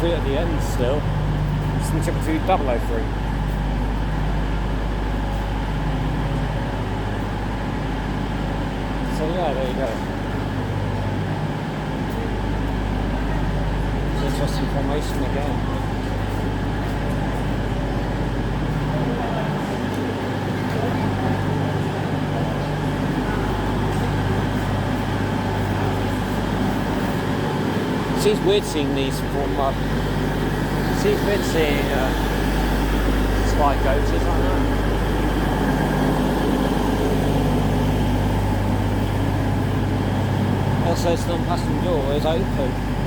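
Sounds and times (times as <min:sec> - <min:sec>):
train diesel engines humming: 0:00.0 - 0:43.0.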